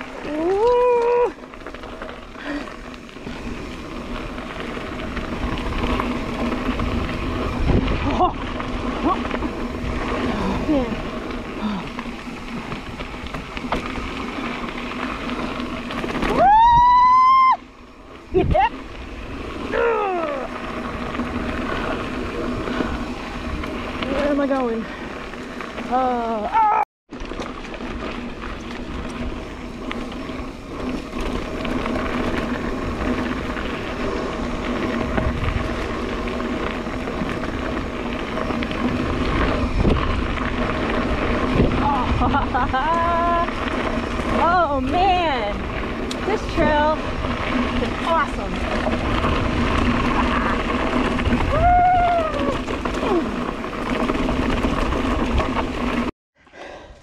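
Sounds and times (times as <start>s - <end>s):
bike rattle: 0.0s - 57.0s
tyres rolling on dirt: 0.0s - 57.0s
wind noise: 0.0s - 57.0s.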